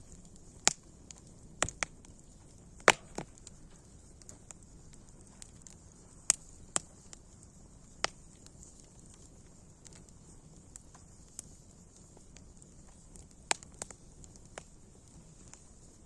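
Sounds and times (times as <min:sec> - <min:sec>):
campfire popping and crackling: 0:00.0 - 0:16.0
faint steady hiss: 0:00.0 - 0:16.0.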